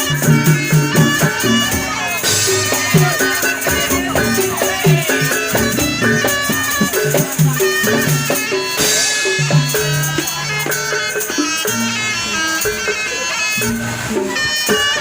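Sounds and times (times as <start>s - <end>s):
gamelan ensemble drums and gongs: 0.0s - 15.0s.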